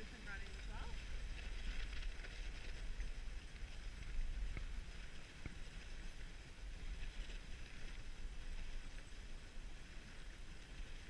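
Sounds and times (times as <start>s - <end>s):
sled runners hissing on snow: 0.0s - 11.0s
wind rumble on microphone: 0.0s - 11.0s.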